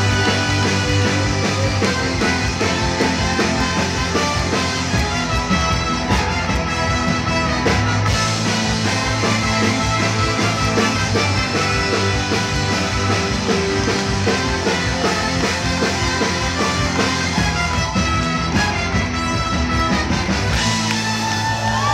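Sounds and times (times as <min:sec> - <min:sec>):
drum kit: 0:00.0 - 0:21.9
electric guitar: 0:00.0 - 0:21.9
keyboard: 0:00.0 - 0:21.9
trombone and trumpet: 0:00.0 - 0:21.9.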